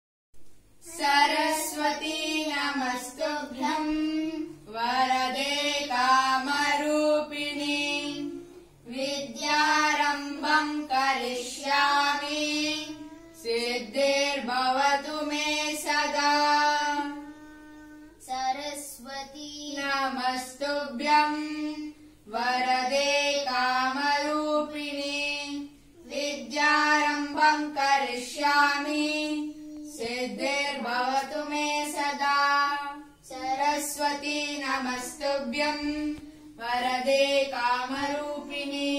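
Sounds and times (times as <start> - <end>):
children singing a prayer song: 0.8 - 38.9.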